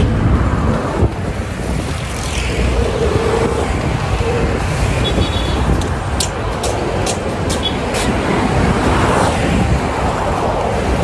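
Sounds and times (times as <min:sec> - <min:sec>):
scooters and cars passing: 0:00.0 - 0:11.0.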